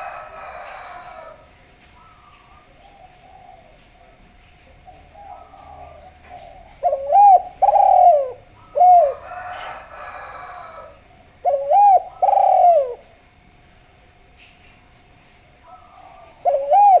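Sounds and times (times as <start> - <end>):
dove cooing: 0.0 - 13.5, 15.5 - 17.0.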